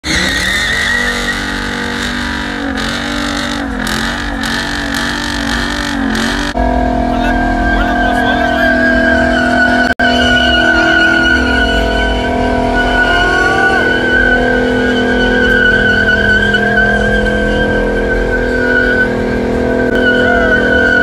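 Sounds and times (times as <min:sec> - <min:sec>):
truck engines idling and revving: 0:00.0 - 0:21.0.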